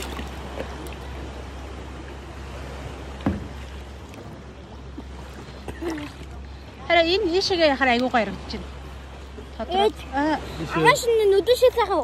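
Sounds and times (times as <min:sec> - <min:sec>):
seawater sloshing and lapping: 0:00.0 - 0:12.0.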